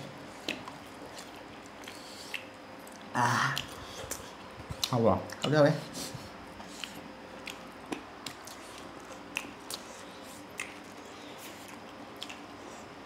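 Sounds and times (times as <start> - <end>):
faint chewing with wet smacks: 0.0 - 13.0.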